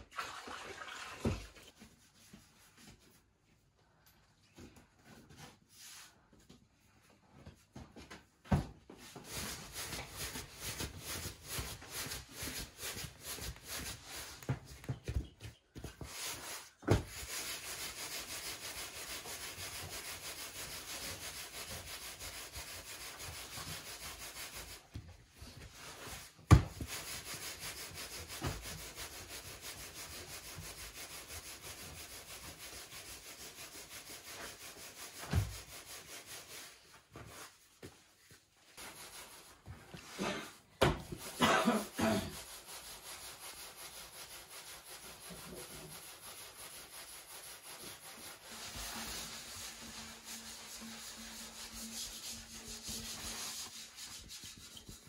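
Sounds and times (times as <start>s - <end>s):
hands rubbing bread dough: 9.0s - 55.0s.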